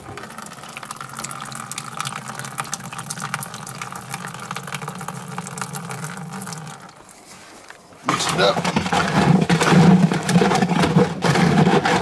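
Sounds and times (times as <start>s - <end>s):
water pouring into plastic bucket: 0.0s - 7.0s, 8.1s - 12.0s.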